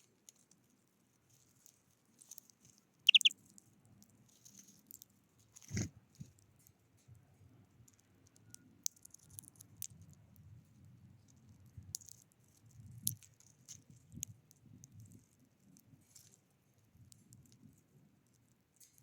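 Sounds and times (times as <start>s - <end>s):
birds pecking at seeds: 0.0s - 7.0s, 7.6s - 19.0s.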